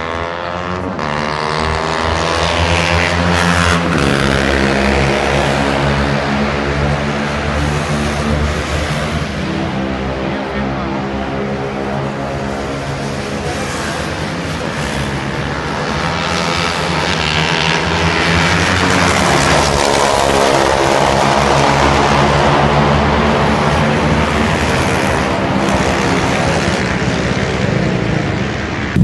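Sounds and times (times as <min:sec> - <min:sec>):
motorcycle engines at high revs: 0:00.0 - 0:29.0.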